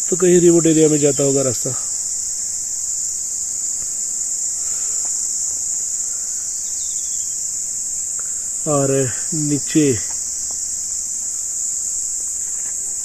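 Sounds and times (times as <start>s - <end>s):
insects chorus droning: 0.0s - 13.0s.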